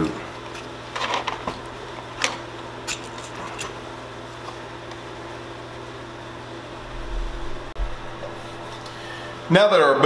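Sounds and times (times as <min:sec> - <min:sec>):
steady low hum: 0:01.6 - 0:10.0.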